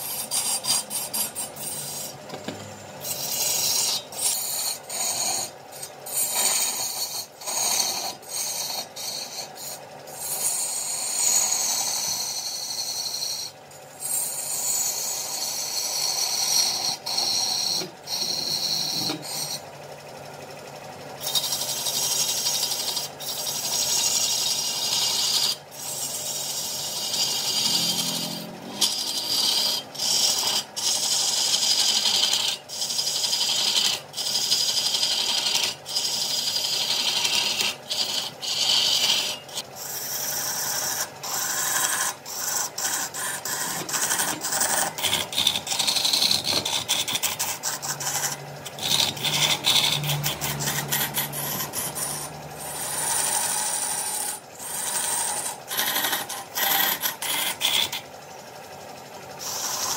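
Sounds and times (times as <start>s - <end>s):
lathe tool shaving wood: 0.0s - 59.9s.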